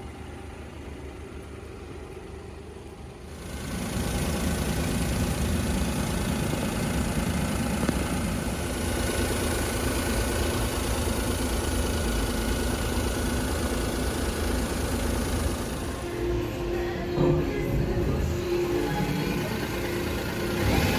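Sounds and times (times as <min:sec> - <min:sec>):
truck engine idling: 0:00.0 - 0:20.9.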